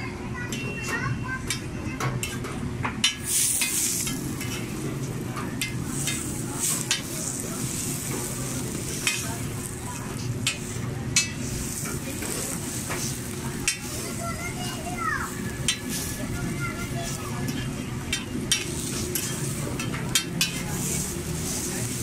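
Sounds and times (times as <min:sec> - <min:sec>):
metal spatula scraping and clacking: 0:01.5 - 0:22.0
food sizzling on a griddle: 0:03.0 - 0:22.0.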